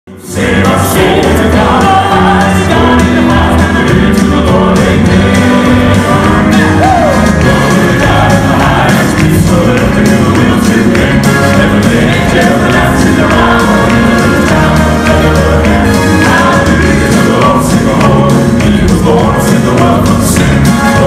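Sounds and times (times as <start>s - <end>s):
male quartet singing amplified: 0.1s - 21.0s.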